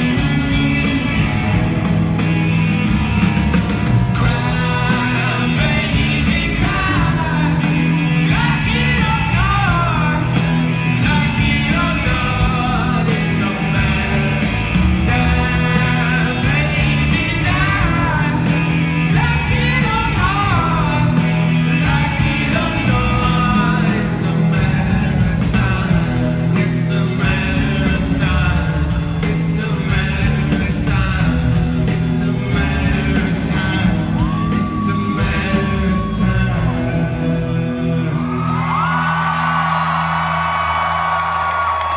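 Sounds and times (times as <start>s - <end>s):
drums: 0.0s - 41.9s
electric guitars: 0.0s - 41.9s
person singing: 4.2s - 40.1s.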